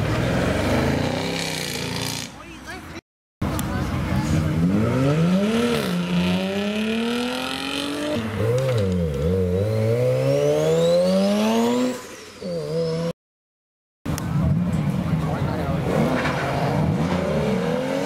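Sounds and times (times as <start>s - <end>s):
rotary engine revving and accelerating: 0.0s - 2.3s, 4.2s - 13.2s, 14.4s - 18.0s.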